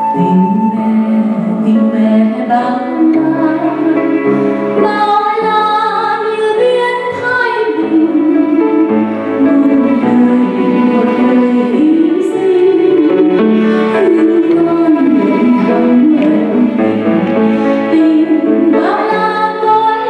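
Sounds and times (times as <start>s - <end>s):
grand piano: 0.0s - 20.0s
woman singing into a microphone: 0.0s - 20.0s.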